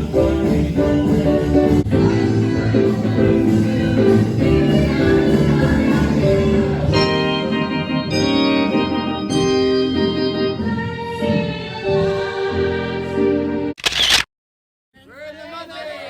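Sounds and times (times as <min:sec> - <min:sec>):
organ-like keyboard chords: 0:00.0 - 0:13.8.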